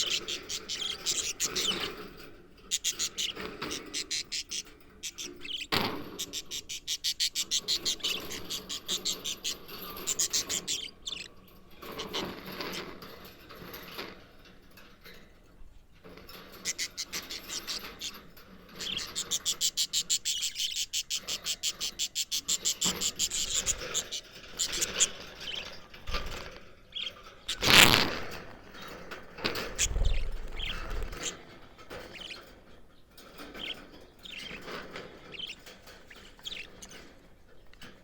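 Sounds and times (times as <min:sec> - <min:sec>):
budgerigars chirping: 0:00.0 - 0:13.0, 0:16.3 - 0:38.0.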